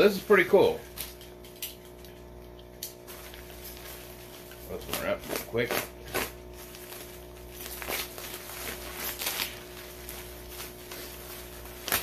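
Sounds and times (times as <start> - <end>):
steady low hum: 0.0 - 12.0
package wrapping rustling: 0.9 - 12.0.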